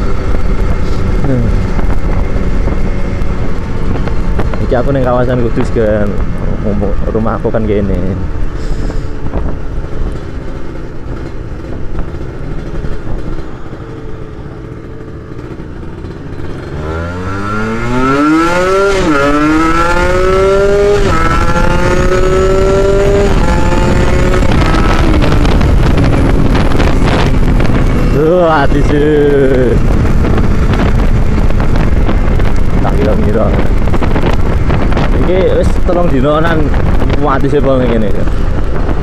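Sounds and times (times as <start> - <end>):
motorcycle engine revving: 0.0 - 39.0
wind noise: 0.0 - 39.0.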